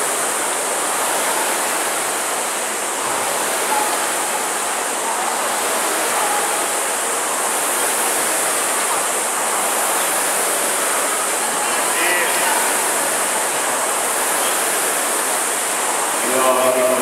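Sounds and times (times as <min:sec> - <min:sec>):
rowing machine fans hissing: 0:00.0 - 0:17.0.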